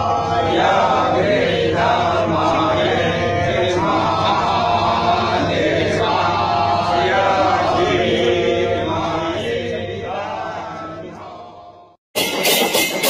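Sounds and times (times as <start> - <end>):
many voices chanting a hymn: 0.0 - 12.0.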